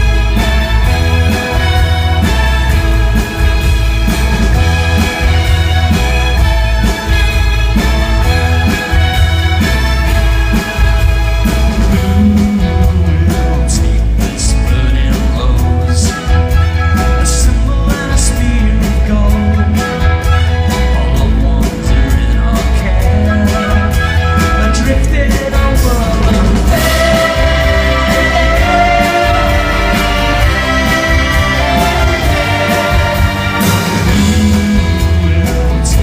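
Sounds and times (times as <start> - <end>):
rock band and orchestra playing: 0.0 - 36.0.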